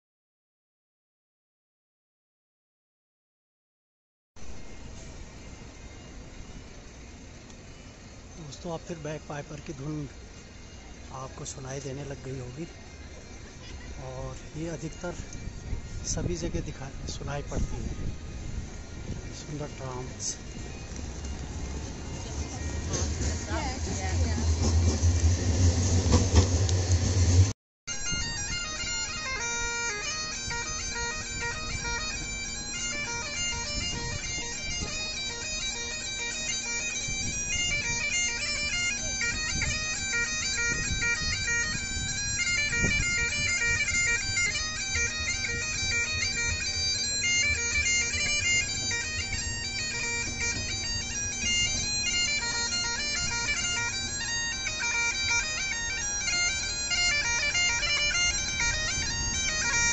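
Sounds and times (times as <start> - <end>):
bagpipe melody: 4.4 - 59.9
bagpipe drone: 4.5 - 59.9.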